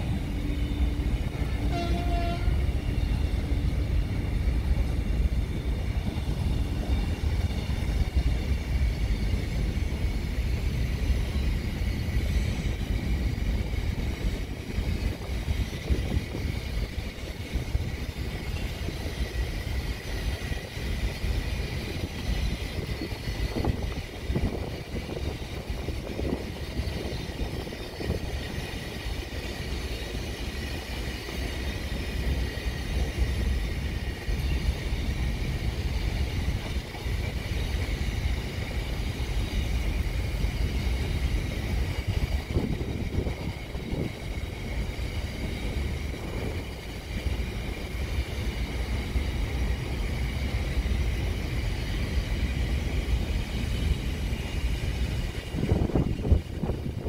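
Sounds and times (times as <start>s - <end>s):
train knocks: 0.0s - 57.0s
train wheels rumbling on rails: 0.0s - 57.0s.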